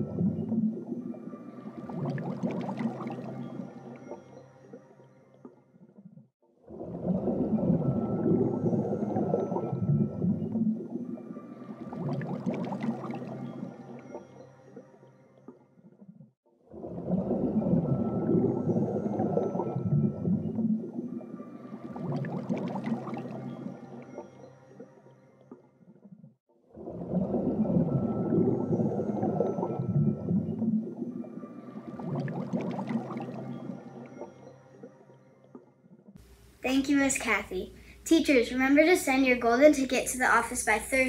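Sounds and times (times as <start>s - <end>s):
low underwater ambient sound: 0.0s - 41.0s.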